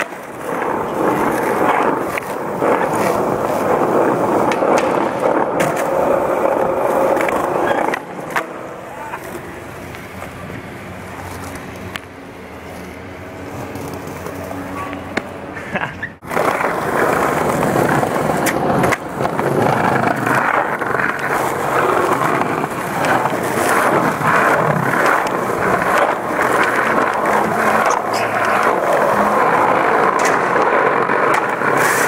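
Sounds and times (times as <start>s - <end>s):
skateboard wheels rolling on stone: 0.0s - 32.0s.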